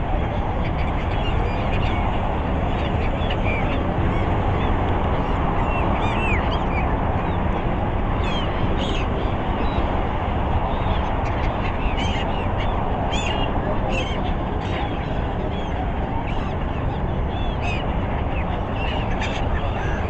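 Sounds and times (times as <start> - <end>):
gulls calling: 0.0 - 20.0
steady noisy background: 0.0 - 20.0.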